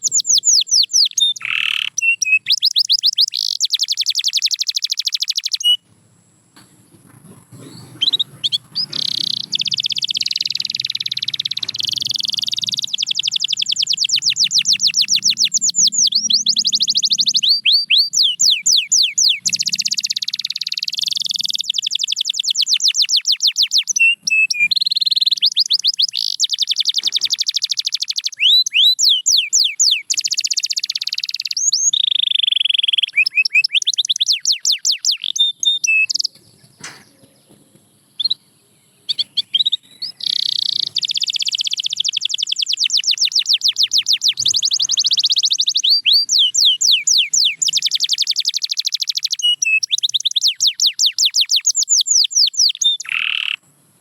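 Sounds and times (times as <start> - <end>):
canary singing: 0.0 - 6.0, 6.6 - 53.8.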